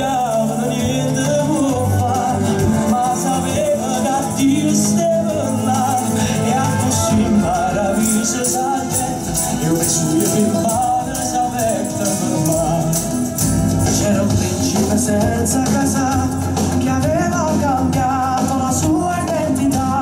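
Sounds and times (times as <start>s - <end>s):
band playing: 0.0s - 20.0s
person singing: 0.0s - 20.0s
tambourine-like hand percussion: 0.0s - 20.0s.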